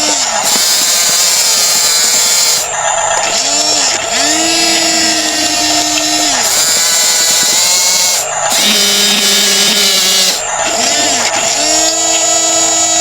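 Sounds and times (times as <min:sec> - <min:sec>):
electric gear motors whining: 0:00.0 - 0:13.0.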